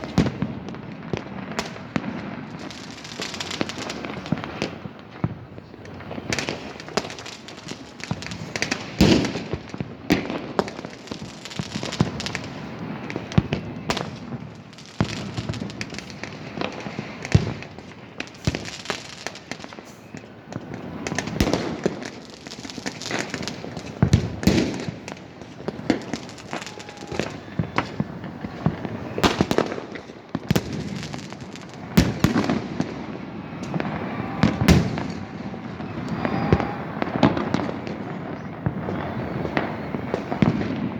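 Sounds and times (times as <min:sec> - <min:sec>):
firecrackers crackling: 0:00.0 - 0:40.9
fireworks bangs: 0:00.0 - 0:40.9.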